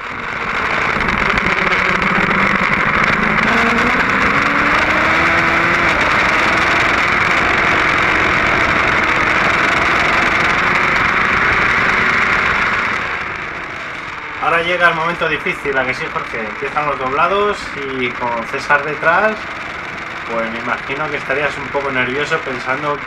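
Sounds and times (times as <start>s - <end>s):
motorcycle engine at high revs: 0.0s - 23.0s.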